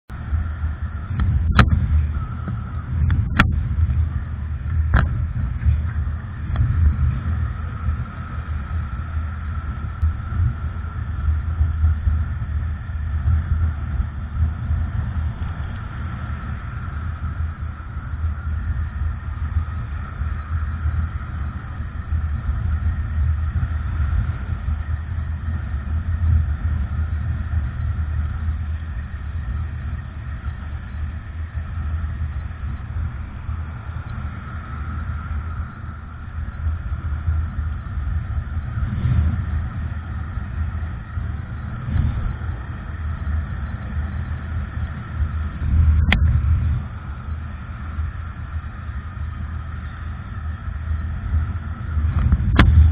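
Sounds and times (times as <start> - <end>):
wind buffeting microphone: 0.1 - 52.9.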